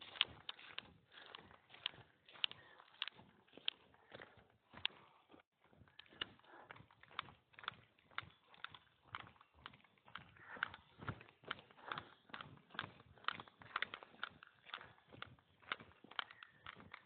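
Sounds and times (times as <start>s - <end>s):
footsteps crunching on trail: 0.0s - 17.0s.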